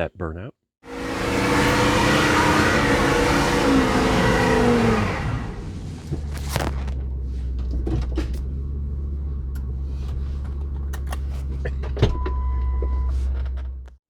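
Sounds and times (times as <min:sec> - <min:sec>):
truck engine droning in cab: 0:00.8 - 0:14.0.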